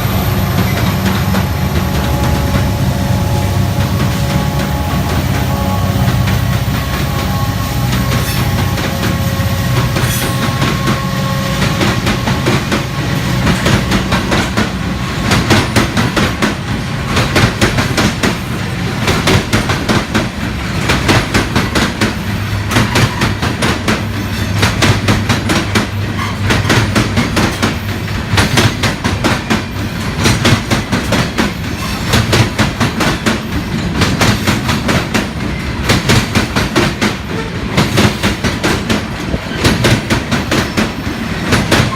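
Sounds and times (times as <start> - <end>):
train wheels clicking over rail joints: 0.0 - 41.9.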